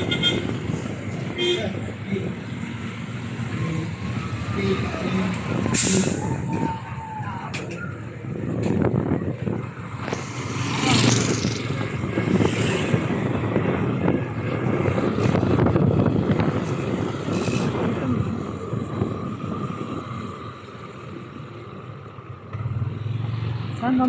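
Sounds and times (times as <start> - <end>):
wind rumble on microphone: 0.0 - 23.0
road noise: 0.0 - 24.0.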